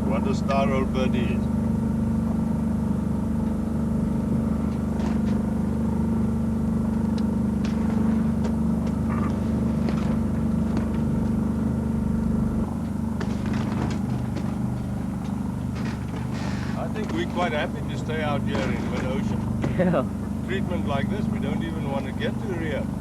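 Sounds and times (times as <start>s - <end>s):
engine drone: 0.0s - 23.0s.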